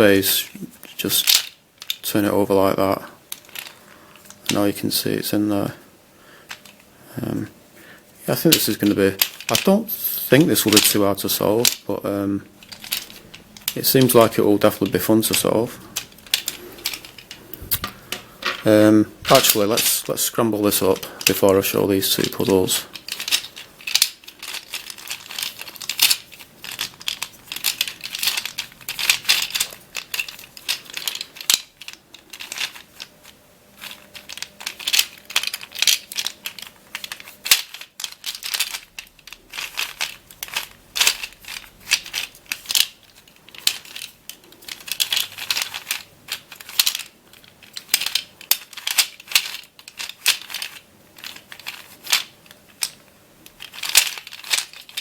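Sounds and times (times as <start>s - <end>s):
balls rattling in puzzle dish: 1.0s - 4.7s, 8.3s - 12.0s, 12.6s - 55.0s.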